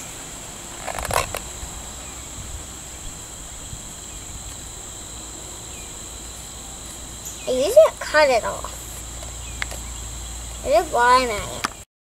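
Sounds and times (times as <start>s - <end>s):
high-pitched insect drone: 0.0s - 11.8s.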